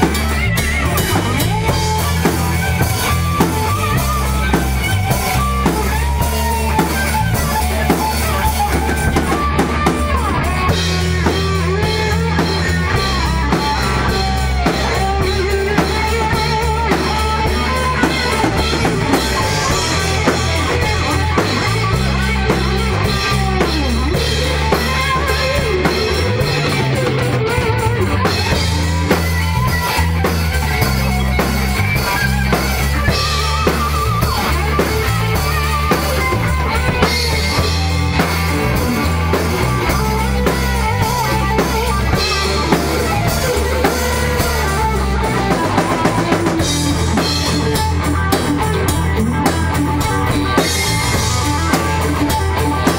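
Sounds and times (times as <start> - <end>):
bass notes: 0.0 - 52.9
drum kit beat: 0.0 - 52.9
electric guitar melody: 0.0 - 52.9.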